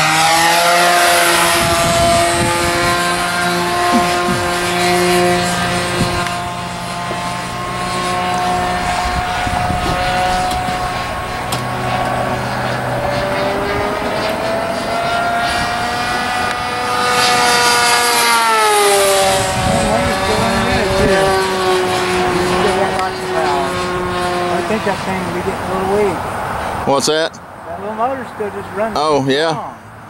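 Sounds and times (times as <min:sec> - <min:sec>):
model airplane engine: 0:00.0 - 0:27.0.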